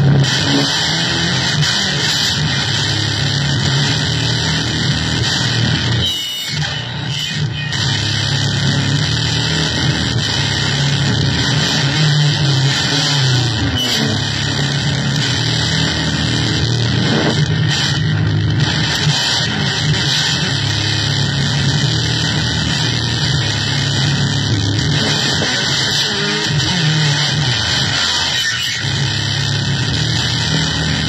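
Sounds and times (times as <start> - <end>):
harsh electronic noise music: 0.0 - 31.0.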